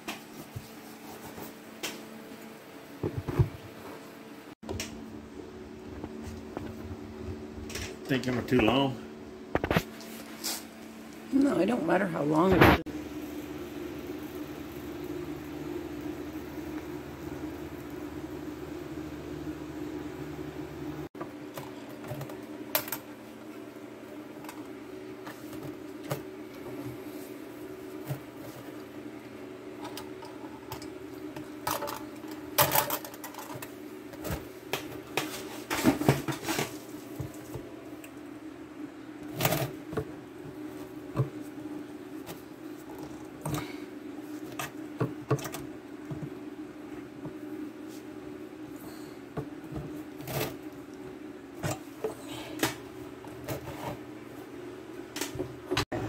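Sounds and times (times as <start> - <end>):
steady low hum: 0.1 - 56.0.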